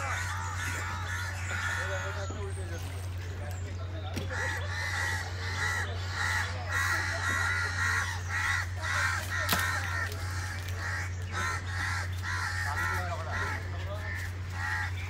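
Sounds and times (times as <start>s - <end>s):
crows cawing: 0.0s - 2.9s, 4.1s - 15.0s
steady low hum: 0.0s - 15.0s.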